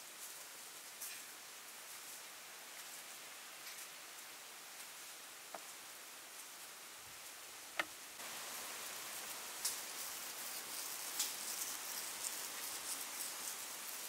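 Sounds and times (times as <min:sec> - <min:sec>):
steady hiss: 0:00.0 - 0:14.0
light pattering ticks: 0:00.2 - 0:06.6, 0:07.2 - 0:14.0.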